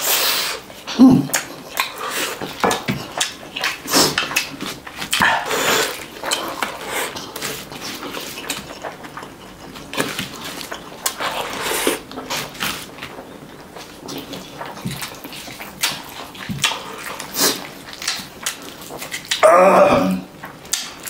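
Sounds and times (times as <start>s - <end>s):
wet chewing and lip smacks: 0.6s - 19.4s.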